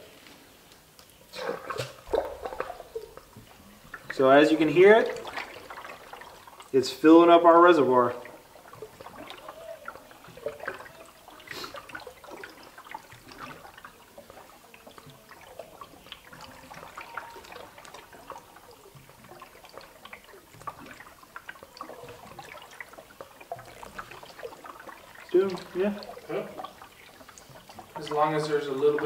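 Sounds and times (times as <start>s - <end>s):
water trickling and gurgling: 0.0s - 29.0s
air bubbles popping in hose: 0.8s - 6.8s, 7.9s - 29.0s.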